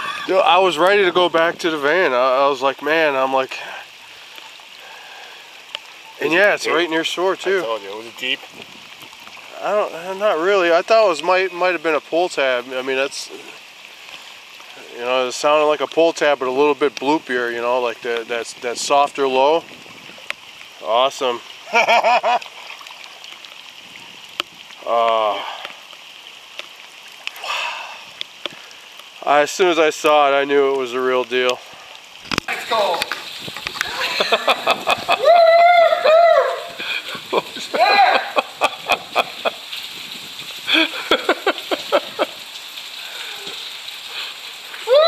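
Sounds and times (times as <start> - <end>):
background hiss: 0.0 - 45.0
steady rain falling: 0.0 - 45.0.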